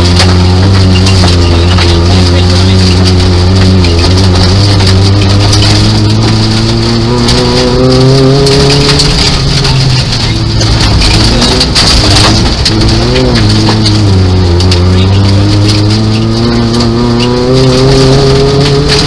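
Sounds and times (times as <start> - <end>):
car engine revving: 0.0 - 19.0
gravel and road noise: 0.0 - 19.0.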